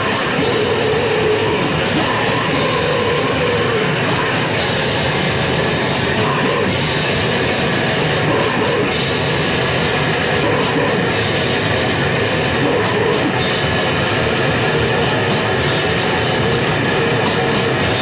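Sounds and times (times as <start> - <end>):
heavy metal music: 0.0 - 18.0.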